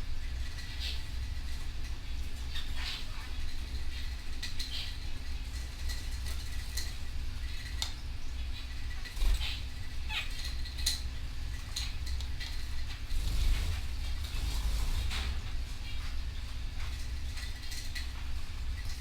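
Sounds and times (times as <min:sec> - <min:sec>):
canaries chirping: 0:00.0 - 0:19.0
faint hum: 0:00.0 - 0:19.0.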